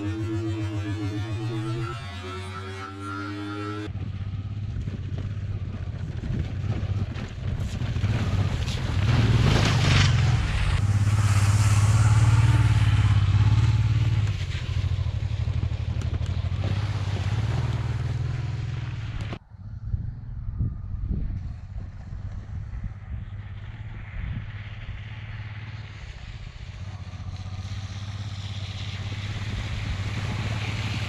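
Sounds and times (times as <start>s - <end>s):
motorcycle engine running: 0.0s - 19.4s, 21.3s - 31.0s.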